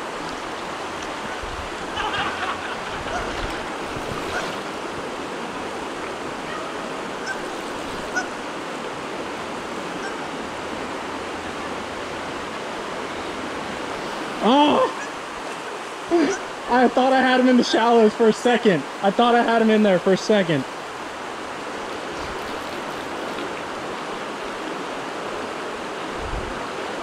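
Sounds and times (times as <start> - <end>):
flowing river water: 0.0 - 27.0.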